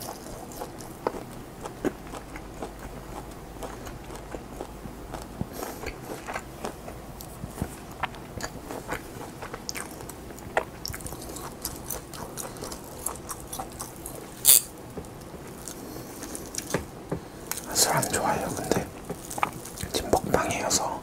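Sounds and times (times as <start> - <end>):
chewing and biting food: 0.0 - 20.5.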